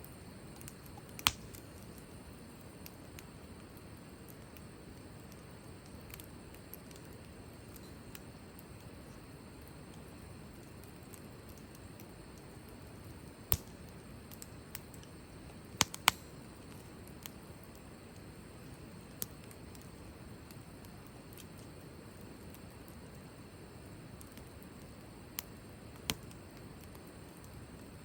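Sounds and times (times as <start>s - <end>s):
fire pops and crackles: 0.0s - 28.0s
wood fire hissing: 0.0s - 28.0s.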